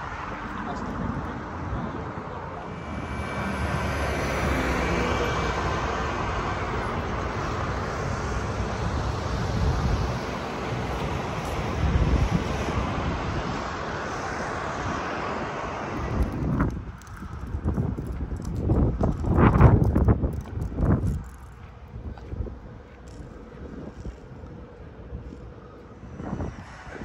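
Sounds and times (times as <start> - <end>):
outdoor rushing noise: 0.0 - 27.0
wind buffeting microphone: 0.0 - 27.0.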